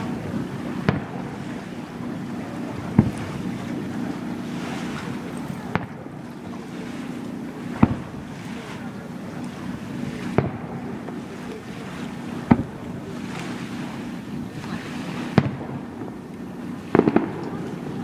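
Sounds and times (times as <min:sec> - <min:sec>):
fireworks bangs: 0:00.0 - 0:06.2, 0:07.6 - 0:08.9, 0:10.0 - 0:18.0
low hum: 0:00.0 - 0:18.0.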